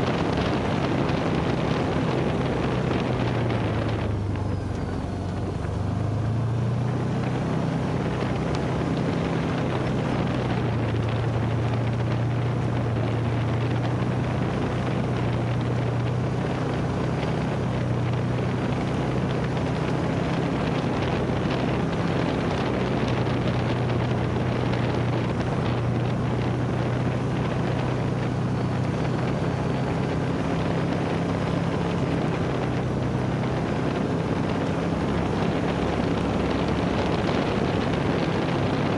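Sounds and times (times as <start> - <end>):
trail noise from moving vehicle: 0.0 - 38.9
vehicle engine droning: 0.0 - 38.9
wind noise on microphone: 0.0 - 38.9.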